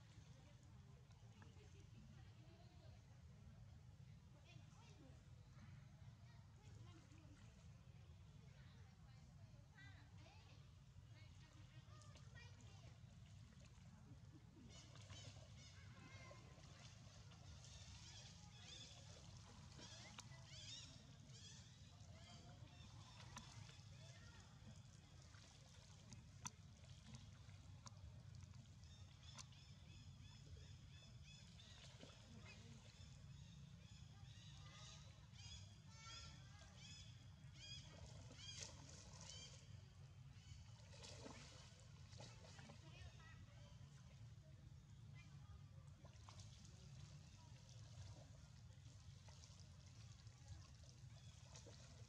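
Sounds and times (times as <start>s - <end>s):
low steady hum: 0.0s - 52.0s
low steady rumble: 0.0s - 52.0s.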